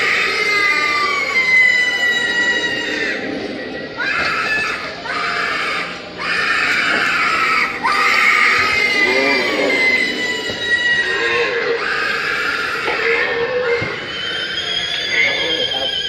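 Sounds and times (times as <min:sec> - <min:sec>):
long high squeal: 0:00.0 - 0:16.0
recorded screams: 0:00.0 - 0:16.0
subway train din: 0:00.0 - 0:16.0.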